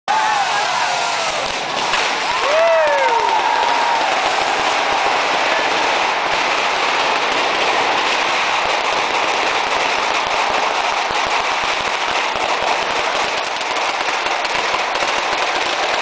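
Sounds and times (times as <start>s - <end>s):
firecrackers rapid bangs: 0.1s - 16.0s.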